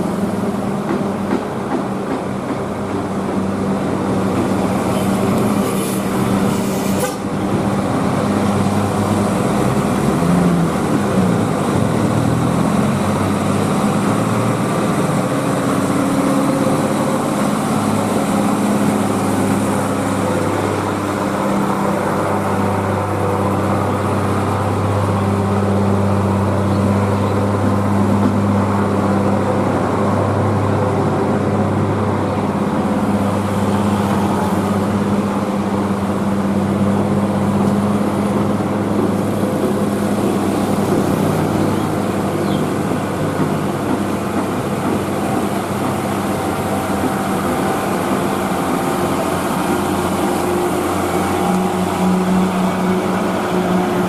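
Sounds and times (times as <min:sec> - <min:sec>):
diesel truck engines pulling uphill: 0:00.0 - 0:54.0
road traffic passing: 0:00.0 - 0:54.0.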